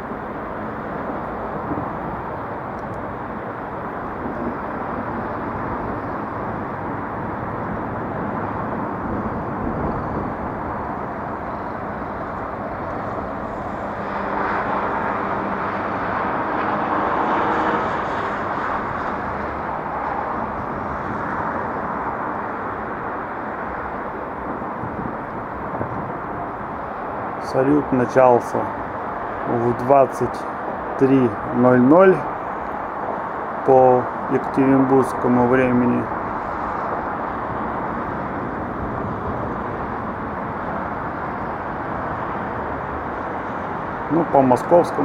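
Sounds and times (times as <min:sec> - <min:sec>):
rumble of vehicle traffic: 0:00.0 - 0:45.0.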